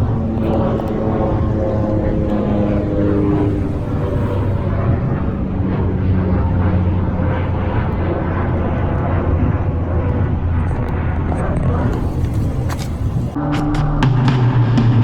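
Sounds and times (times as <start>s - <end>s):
rushing haze: 0.0s - 8.6s, 9.4s - 13.4s
low droning hum in sky: 0.0s - 14.0s
held low tones: 0.0s - 15.0s.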